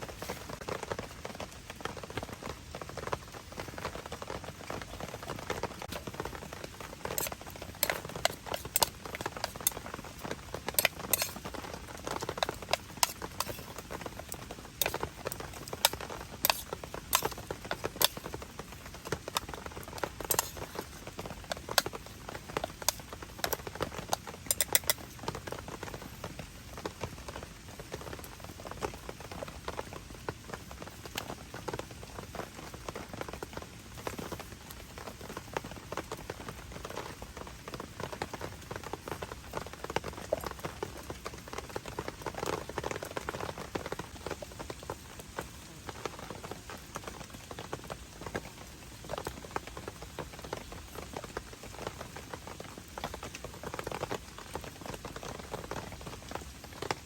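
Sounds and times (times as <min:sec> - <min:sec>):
heavy rain falling: 0:00.0 - 0:57.0
large raindrops tapping: 0:00.0 - 0:57.0.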